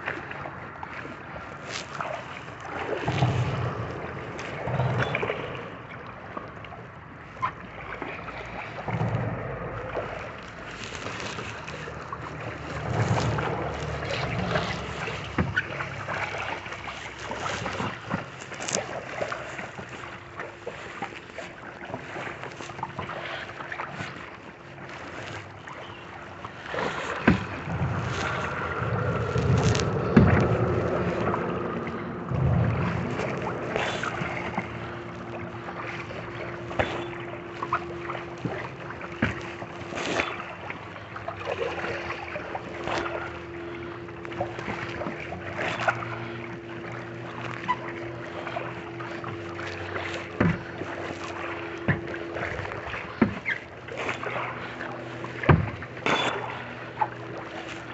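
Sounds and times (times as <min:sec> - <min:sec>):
paddle strokes splashing water: 0:00.0 - 0:57.9
steady low hum: 0:01.3 - 0:57.9
paddle knocking on hull: 0:08.7 - 0:25.0, 0:25.7 - 0:57.9.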